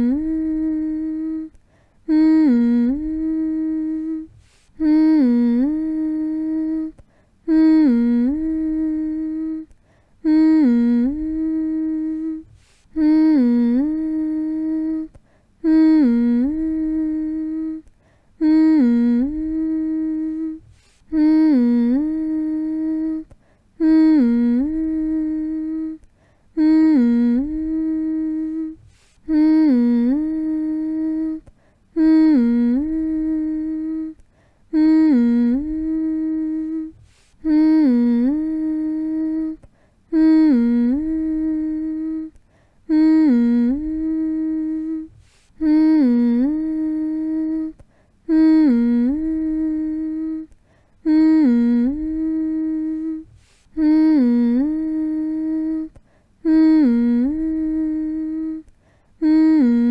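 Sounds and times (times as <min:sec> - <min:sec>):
person humming one note: 0:00.0 - 0:06.9, 0:07.5 - 0:23.2, 0:23.8 - 0:26.0, 0:26.6 - 0:31.4, 0:32.0 - 0:50.5, 0:51.1 - 0:59.9.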